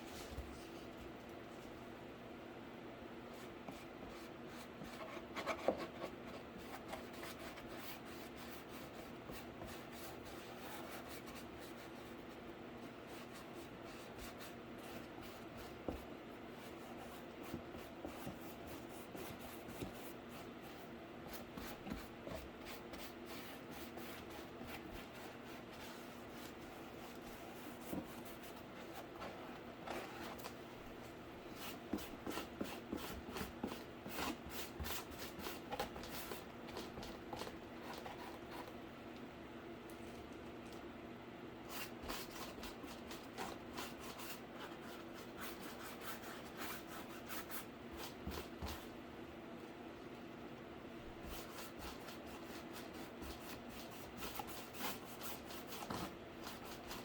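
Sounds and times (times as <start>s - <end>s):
rubbing and scratching on cardboard: 3.3s - 38.8s, 41.7s - 48.9s, 51.2s - 57.0s.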